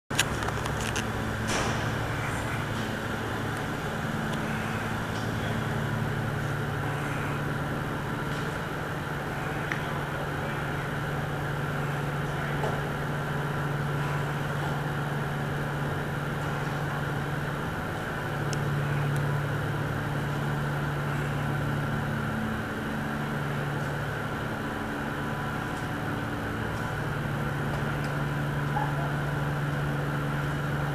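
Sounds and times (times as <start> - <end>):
faint higher hum: 0.1 - 30.9
ship machinery low drone: 0.1 - 30.9.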